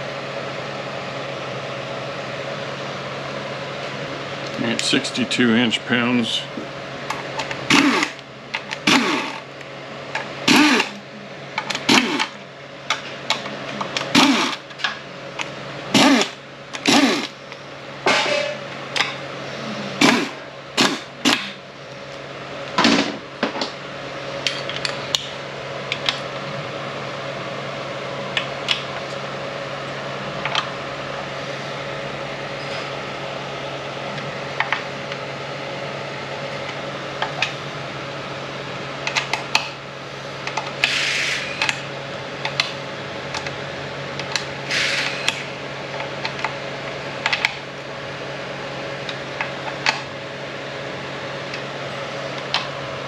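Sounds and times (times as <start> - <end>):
steady hum: 0.0 - 53.0.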